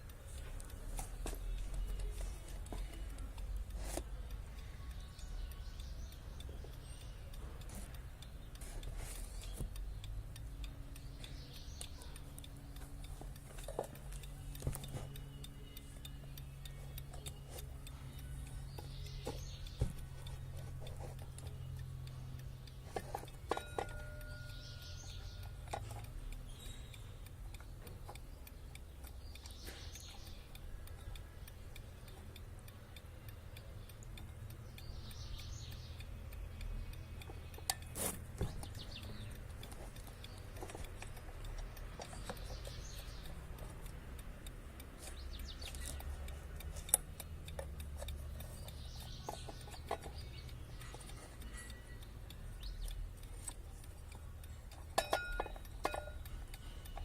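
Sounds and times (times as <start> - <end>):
alarm clock ticking: 0.0 - 57.0.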